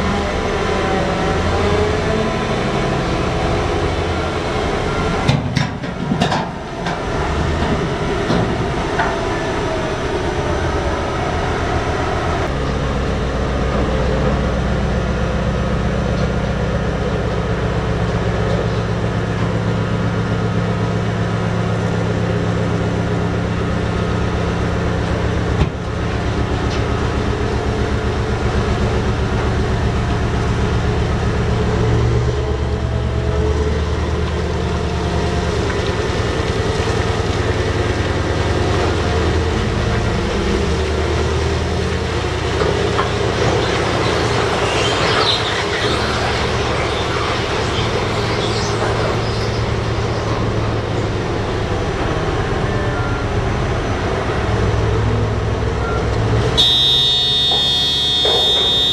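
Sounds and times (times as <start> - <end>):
heavy diesel engine drone: 0.0 - 58.9.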